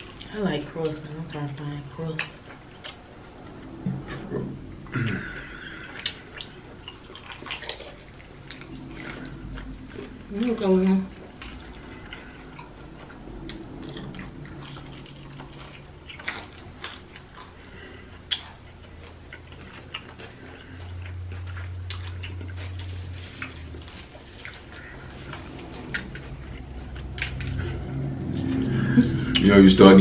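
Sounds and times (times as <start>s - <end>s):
chewing with mouth smacks: 0.0s - 29.5s
low steady hum: 0.0s - 30.0s.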